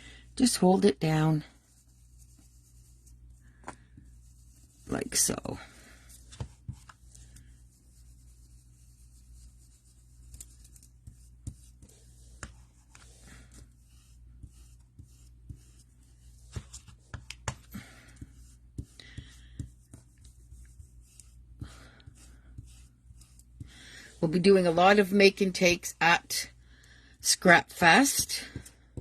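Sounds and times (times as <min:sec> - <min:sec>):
brush rubbing on paper: 0:00.9 - 0:17.2, 0:17.8 - 0:25.4.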